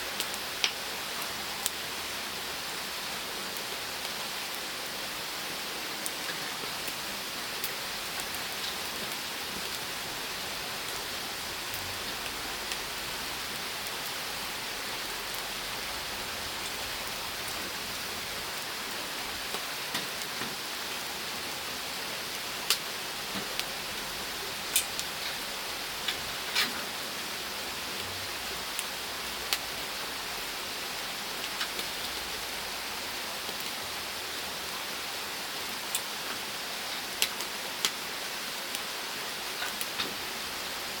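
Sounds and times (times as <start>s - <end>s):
fire crackling and popping: 0.1s - 34.7s, 35.6s - 40.8s
fire hissing: 0.2s - 34.2s.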